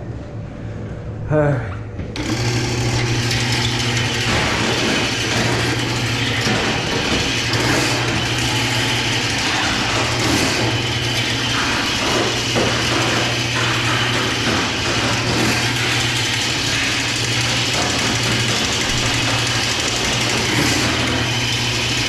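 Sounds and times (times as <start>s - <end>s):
drain-cleaning machine motor hum: 2.2s - 22.0s.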